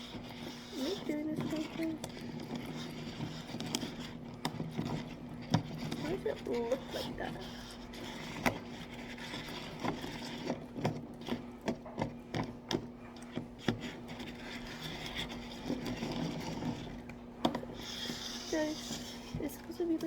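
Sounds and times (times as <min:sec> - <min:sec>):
chopsticks scraping in a cup: 0:00.0 - 0:20.0.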